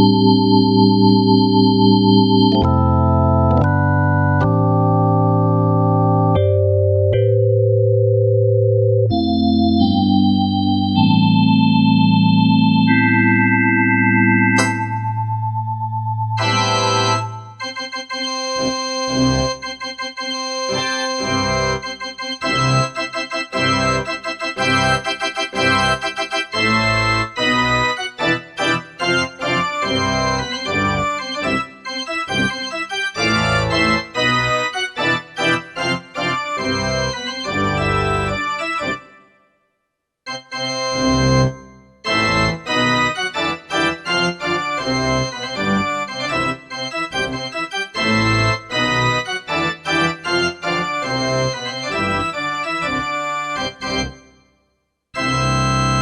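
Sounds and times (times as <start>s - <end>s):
electronic keyboard organ music: 0.0s - 39.4s, 40.3s - 54.5s, 55.2s - 56.0s.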